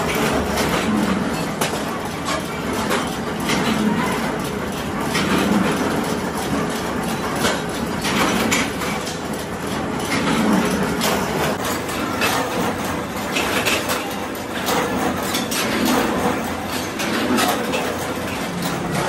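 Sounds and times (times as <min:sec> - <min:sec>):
workshop machinery running: 0:00.0 - 0:19.0.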